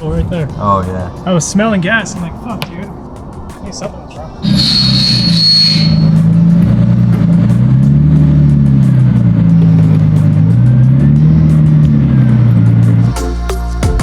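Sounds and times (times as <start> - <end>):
car engine revving unevenly: 0.0 - 14.0.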